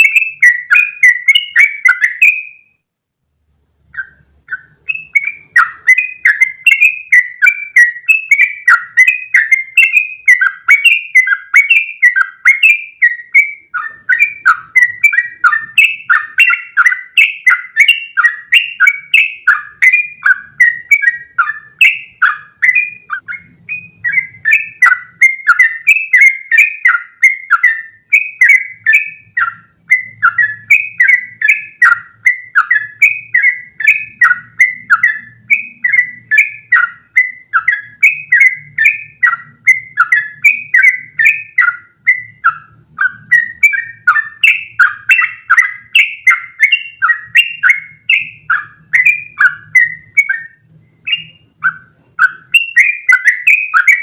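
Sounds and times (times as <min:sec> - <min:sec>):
bird chirping song: 0:00.0 - 0:54.0.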